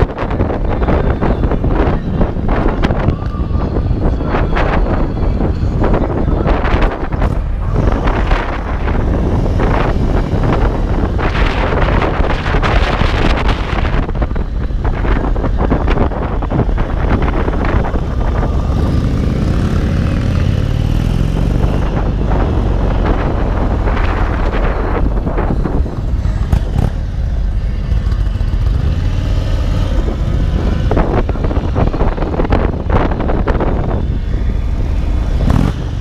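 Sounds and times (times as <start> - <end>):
motorcycle engine running: 0.0 - 36.0
wind buffeting microphone: 0.0 - 36.0.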